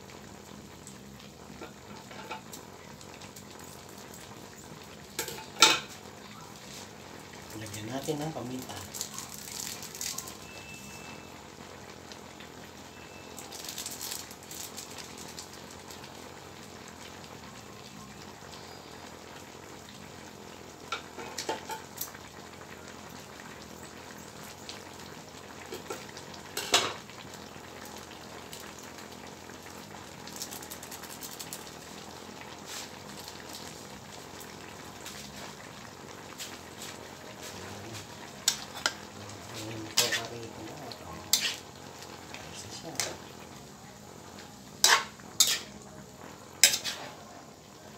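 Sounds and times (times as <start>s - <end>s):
vegetables bubbling and sizzling: 0.0s - 47.9s.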